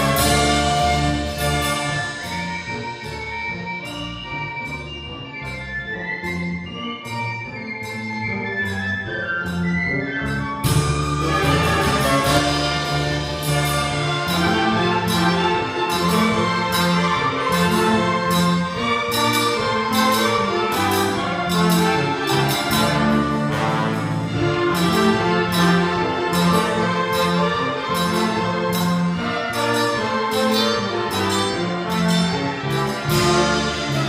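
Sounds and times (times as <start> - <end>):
symphony orchestra playing: 0.0 - 34.0.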